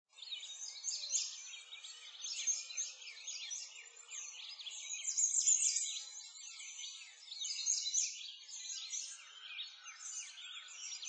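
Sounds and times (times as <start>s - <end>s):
songbirds chirping and trilling: 0.1s - 11.0s.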